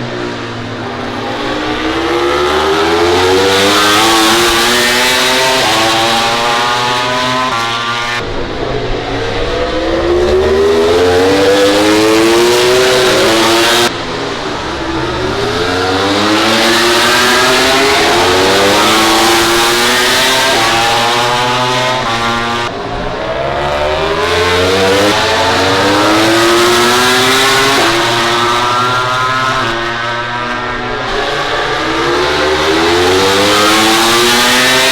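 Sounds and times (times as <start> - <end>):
racing motorcycles accelerating: 0.0 - 34.9.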